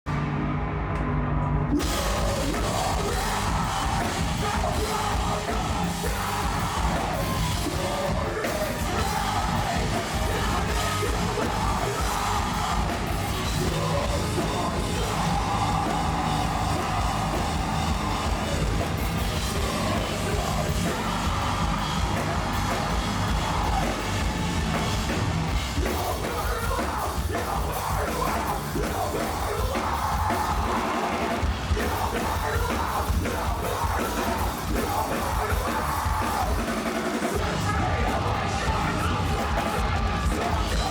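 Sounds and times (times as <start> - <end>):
distorted guitars: 0.0 - 40.9
pounding drums: 1.8 - 40.9
screamed vocals: 1.8 - 40.9.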